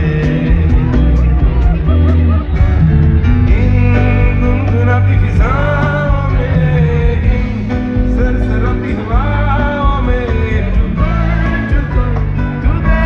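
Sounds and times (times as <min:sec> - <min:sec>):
heavy bass: 0:00.0 - 0:13.0
live band music: 0:00.0 - 0:13.0
person singing: 0:00.0 - 0:13.0.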